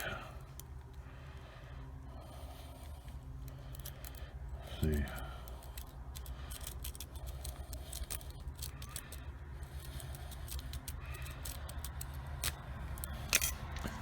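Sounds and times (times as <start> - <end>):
lock pick clicking and scraping: 0.0 - 14.0
low steady hum: 0.0 - 14.0.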